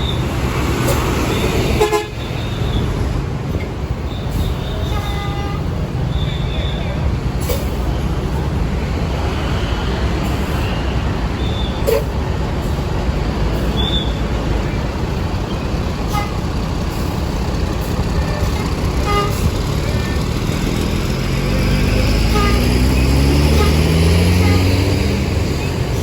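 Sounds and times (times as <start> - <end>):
bus engine accelerating: 0.0 - 26.0
traffic rumble: 0.0 - 26.0.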